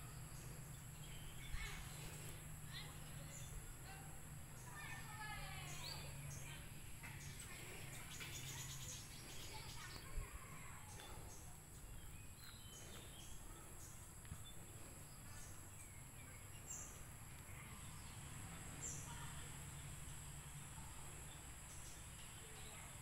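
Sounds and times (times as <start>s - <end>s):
bird chirps: 0.0s - 3.7s, 4.5s - 23.0s.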